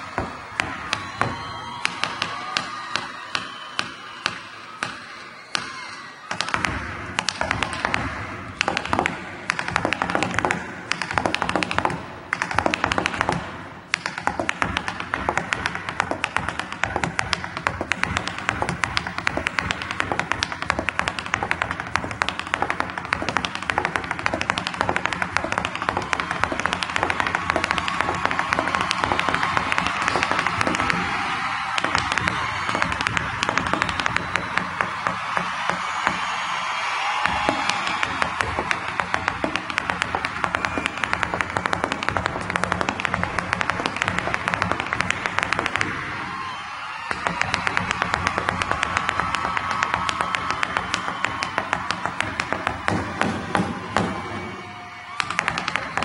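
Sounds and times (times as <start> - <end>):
hard-soled shoes tapping stage floor: 0.0 - 56.0.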